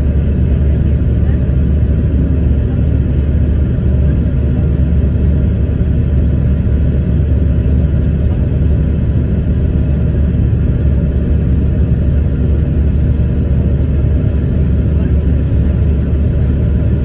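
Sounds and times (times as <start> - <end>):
plane cabin rumble: 0.0 - 17.0.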